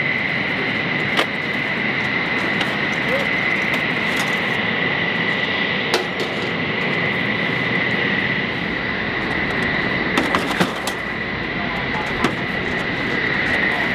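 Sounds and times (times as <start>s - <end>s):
mechanical drone with high whine: 0.0s - 13.9s.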